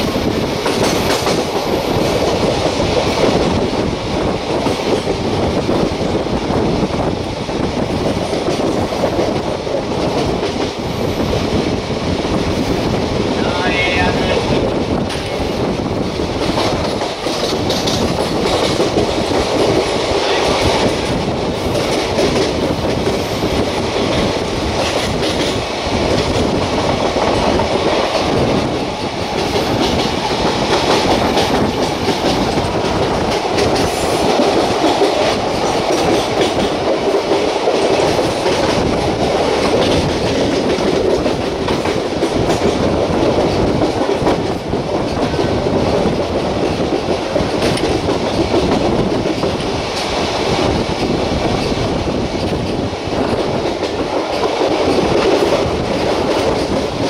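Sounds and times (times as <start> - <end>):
clickety-clack over rail joints: 0.0 - 57.0
train wheels rumbling on track: 0.0 - 57.0.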